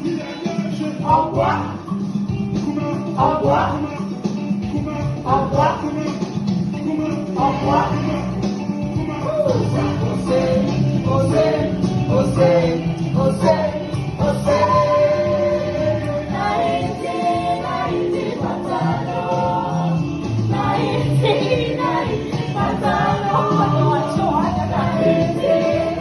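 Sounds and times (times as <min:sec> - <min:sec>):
gospel song with choir vocals: 0:00.0 - 0:26.0.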